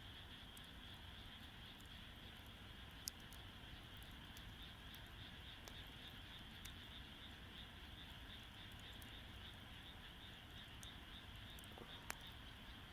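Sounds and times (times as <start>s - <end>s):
campfire popping: 0.0s - 12.9s
insects chirring: 0.0s - 12.9s.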